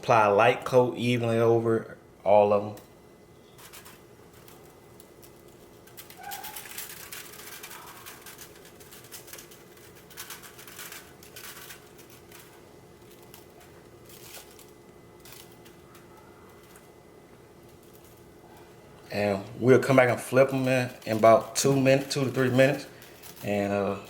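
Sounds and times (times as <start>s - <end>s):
seasoning shaker rattling: 3.5s - 17.0s, 17.6s - 24.0s.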